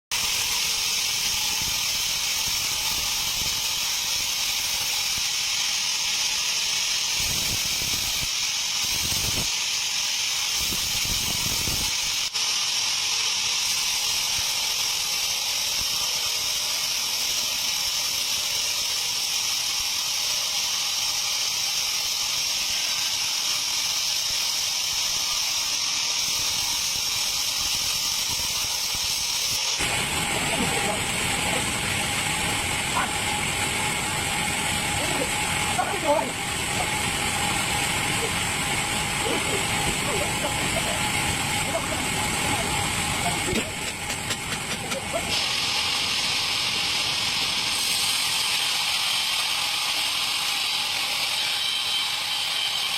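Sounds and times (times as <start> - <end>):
band saw blade cutting log: 0.1 - 52.9.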